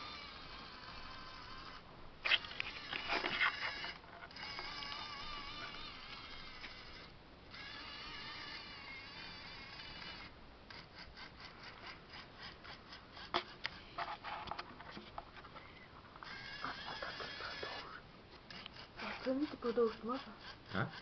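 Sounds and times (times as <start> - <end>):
toy tank motors whining: 0.0 - 14.0, 15.6 - 21.0.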